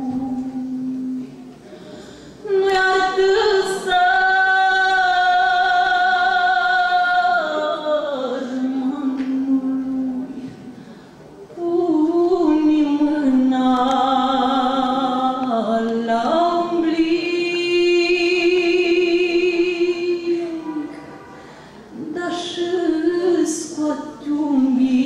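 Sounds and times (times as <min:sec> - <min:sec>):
woman singing unaccompanied: 0:00.0 - 0:01.4, 0:02.4 - 0:10.6, 0:11.6 - 0:20.9, 0:22.0 - 0:25.0.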